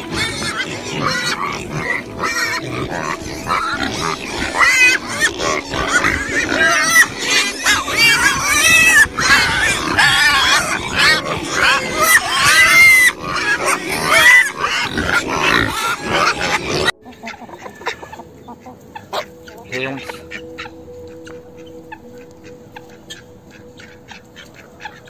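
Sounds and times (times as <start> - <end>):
pigs squealing: 0.0 - 25.0.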